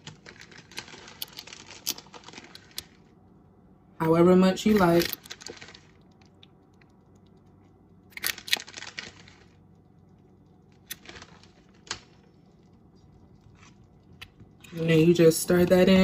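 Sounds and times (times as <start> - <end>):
grated cheese clicks and rattles: 0.0 - 3.1, 4.8 - 14.7.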